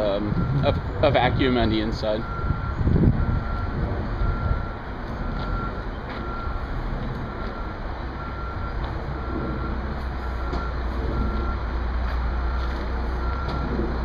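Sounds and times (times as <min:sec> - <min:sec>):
engine rumble: 0:00.0 - 0:14.0
vehicle backup alarm beeping: 0:00.0 - 0:14.0.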